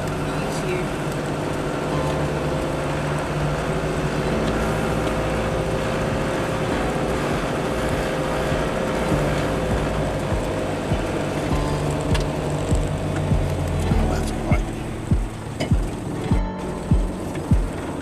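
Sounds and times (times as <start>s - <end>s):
diesel engine running steadily: 0.0s - 18.0s
tyres rumbling on gravel: 0.0s - 18.0s.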